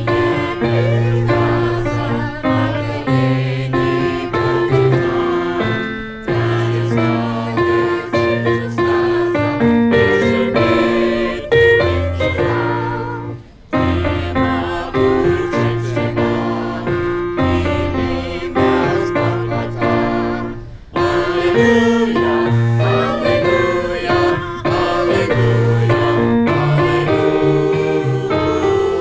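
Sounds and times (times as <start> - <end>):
group singing a hymn: 0.0 - 29.0.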